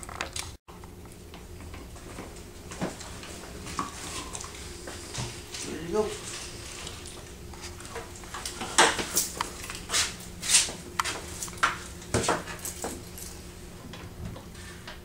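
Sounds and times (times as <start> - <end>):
faint steady hum: 0.7 - 15.0.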